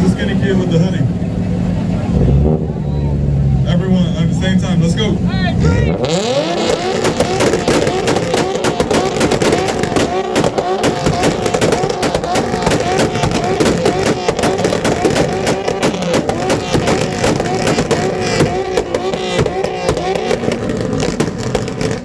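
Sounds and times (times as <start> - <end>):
car engines revving: 0.0 - 22.0
exhaust popping and crackling: 0.0 - 22.0.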